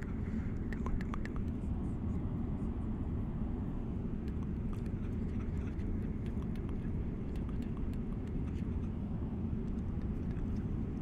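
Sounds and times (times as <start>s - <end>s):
airliner engine rumble: 0.0s - 11.0s.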